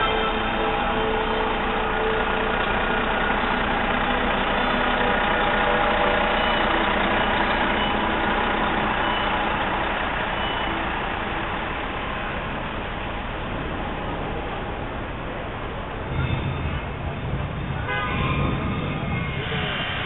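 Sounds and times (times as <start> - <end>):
city street noise: 0.0 - 20.0
vehicle engines running: 0.0 - 20.0.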